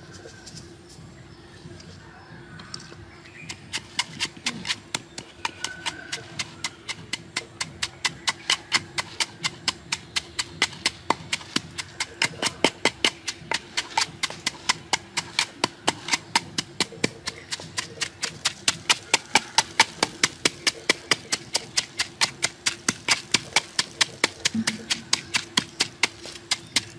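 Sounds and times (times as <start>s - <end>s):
wooden pestle pounding in mortar: 3.3s - 26.9s.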